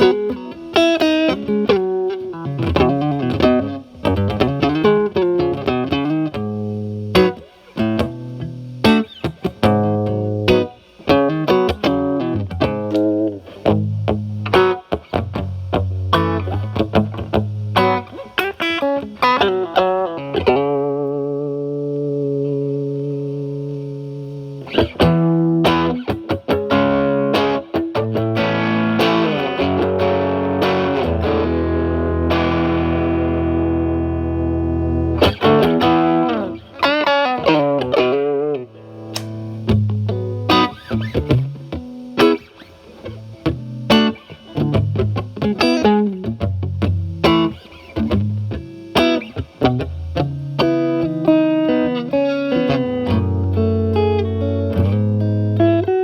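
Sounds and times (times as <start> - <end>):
overdriven electric guitar: 0.0 - 56.0.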